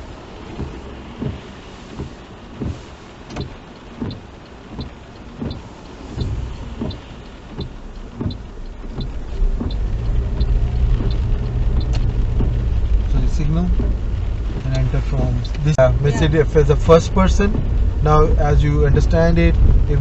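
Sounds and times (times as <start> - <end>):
turn signal ticking: 0.0 - 20.0
car engine accelerating: 3.3 - 20.0.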